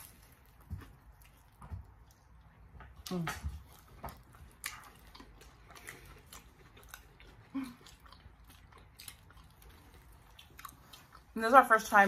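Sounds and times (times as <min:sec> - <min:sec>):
chewing crunchy food: 0:00.0 - 0:11.9.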